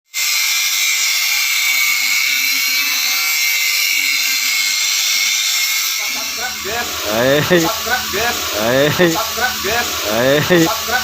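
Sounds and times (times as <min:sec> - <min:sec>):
chopper machine high-pitched whir: 0:00.2 - 0:11.0.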